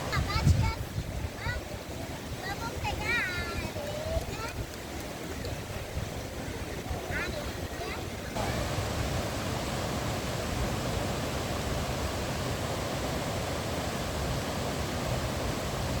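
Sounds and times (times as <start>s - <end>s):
waterfall roaring: 1.3s - 16.0s.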